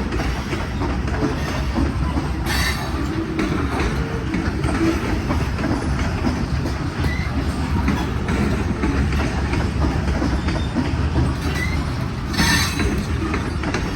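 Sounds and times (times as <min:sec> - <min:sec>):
freight train cars rumbling: 0:00.0 - 0:13.9
train wheel screech: 0:00.0 - 0:13.9
wheel clicks over rail joints: 0:00.0 - 0:13.9.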